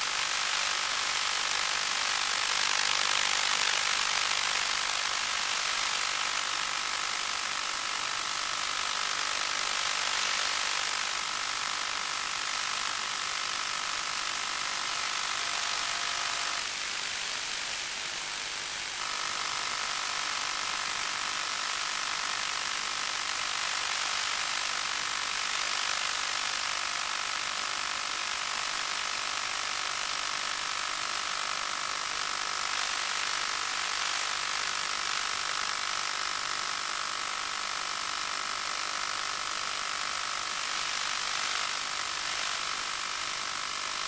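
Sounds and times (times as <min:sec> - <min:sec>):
static hiss: 0:00.0 - 0:44.0.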